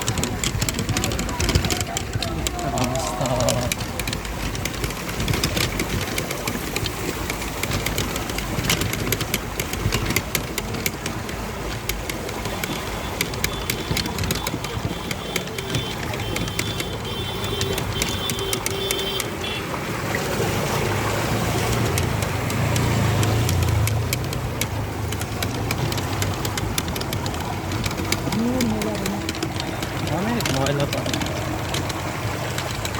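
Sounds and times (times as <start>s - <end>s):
sharp ticks: 0.0s - 19.6s, 21.3s - 32.9s
deep engine rumble: 0.0s - 32.9s
vehicle engines running: 0.0s - 32.9s.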